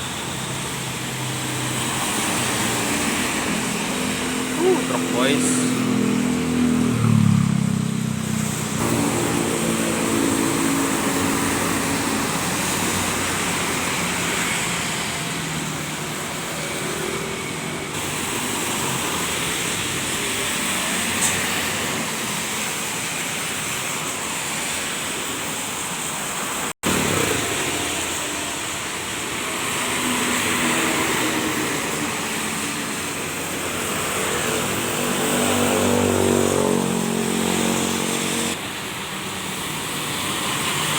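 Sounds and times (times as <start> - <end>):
trucks driving past: 0.0 - 40.9
tyres hissing on wet road: 0.0 - 40.9.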